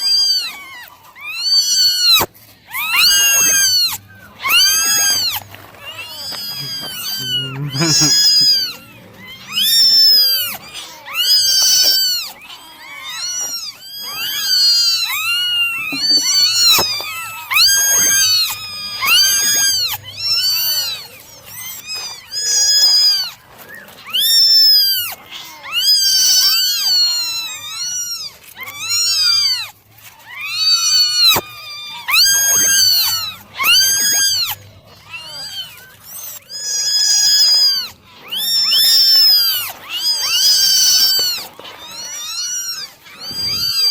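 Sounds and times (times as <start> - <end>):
kittens meowing: 0.0 - 43.9.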